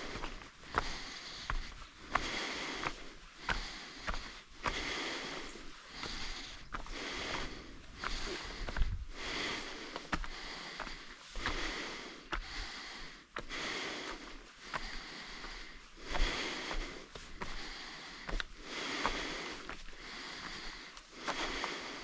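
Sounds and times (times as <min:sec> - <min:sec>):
person breathing hard: 0:00.0 - 0:22.0.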